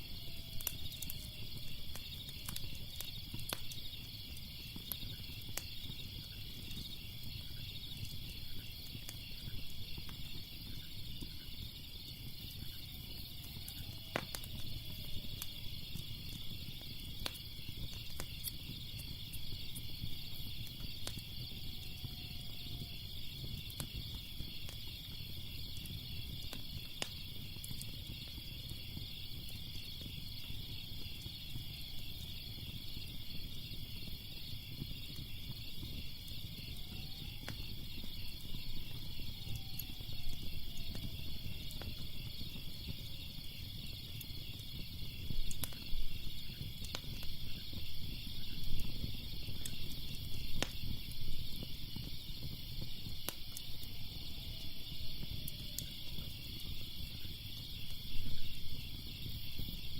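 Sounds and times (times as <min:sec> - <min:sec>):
crickets chirping: 0:00.0 - 0:59.9
fire crackling: 0:00.0 - 0:59.9.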